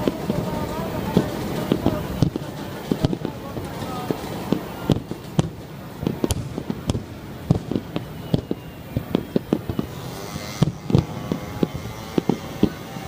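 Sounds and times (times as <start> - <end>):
aerial fireworks booming: 0.0 - 13.0.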